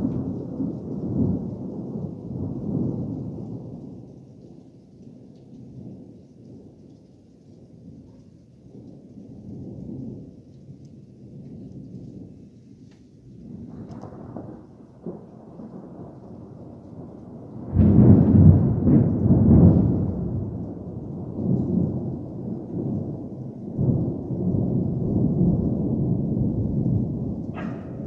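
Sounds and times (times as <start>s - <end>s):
thunder rumbling: 0.0s - 4.9s, 5.5s - 28.0s.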